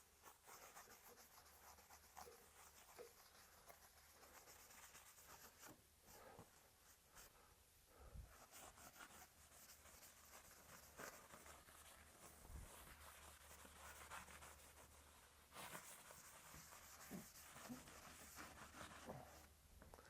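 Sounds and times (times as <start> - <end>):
paint brush strokes on wood: 0.0 - 7.4, 8.0 - 19.5.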